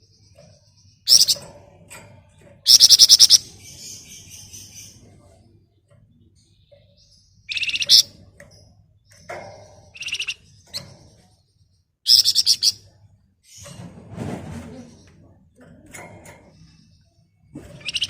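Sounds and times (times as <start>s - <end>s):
songbird shrill rattling chatter: 0.0s - 5.3s, 6.4s - 13.9s, 15.9s - 18.0s.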